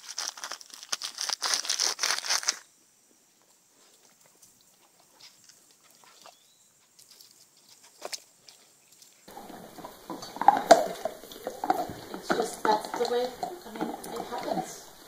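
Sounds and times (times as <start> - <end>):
close crinkling and crackling: 0.0 - 2.7, 3.8 - 15.0
faint small rustles: 0.0 - 15.0.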